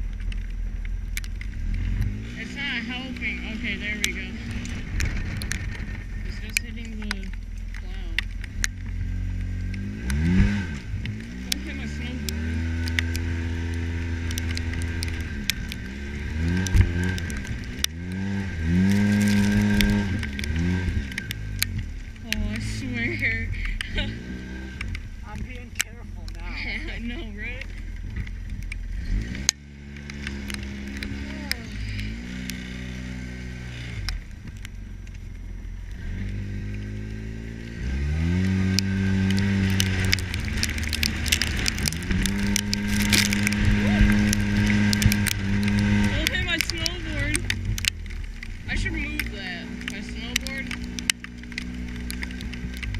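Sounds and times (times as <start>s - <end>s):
sharp clicks and rattles: 0.0s - 52.9s
vehicle engine running: 0.0s - 52.9s.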